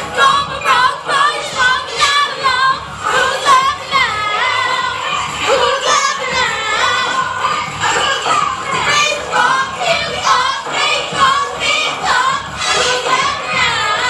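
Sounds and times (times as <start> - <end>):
high singing voice: 0.0 - 14.0
steady music backing: 0.0 - 14.0.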